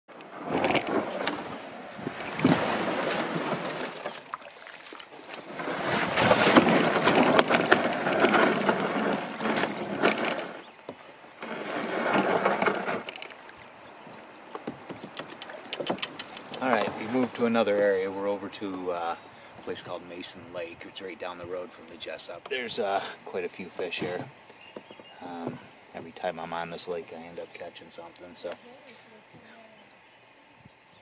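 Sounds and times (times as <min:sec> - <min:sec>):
kayak hull scraping on dirt: 0:00.1 - 0:28.8.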